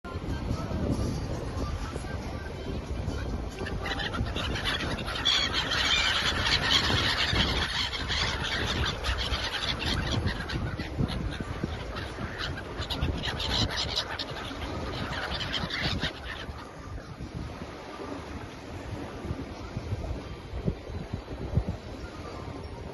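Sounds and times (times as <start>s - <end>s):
low wind rumble: 0.1s - 22.9s
seabirds calling: 0.1s - 22.9s.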